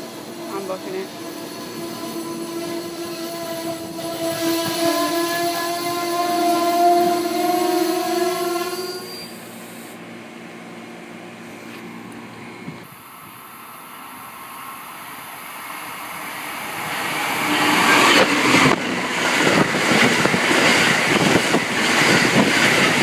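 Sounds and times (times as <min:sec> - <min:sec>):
passenger train cars rolling past: 0:00.0 - 0:23.0.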